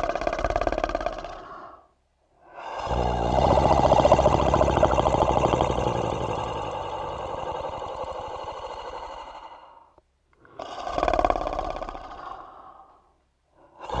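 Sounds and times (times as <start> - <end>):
monster snoring: 0.0 - 1.9, 2.5 - 12.9, 13.8 - 14.0.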